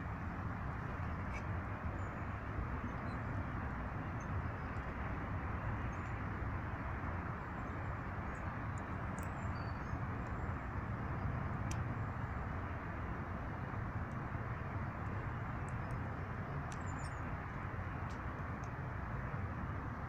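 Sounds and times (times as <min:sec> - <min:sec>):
outdoor rumble and hiss: 0:00.0 - 0:20.0.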